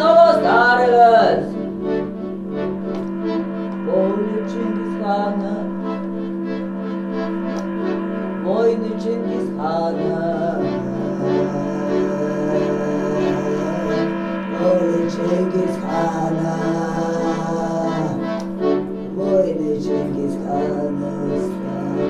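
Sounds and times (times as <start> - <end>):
steady low drone: 0.0 - 22.0.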